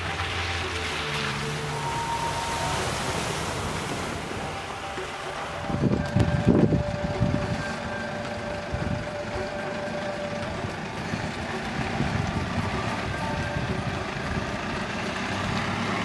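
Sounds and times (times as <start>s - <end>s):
motorhome engine driving: 0.0s - 16.0s
wind buffeting microphone: 2.0s - 16.0s.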